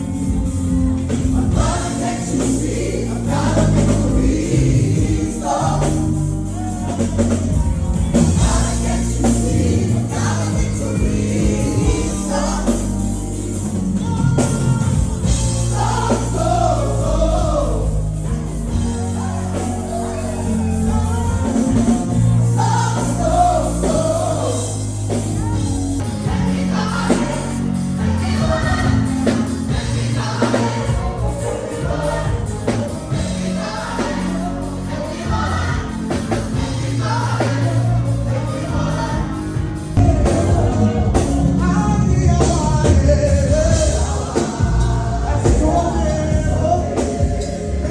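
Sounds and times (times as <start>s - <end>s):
band with bass line: 0.0s - 47.9s
gospel choir singing: 0.0s - 47.9s.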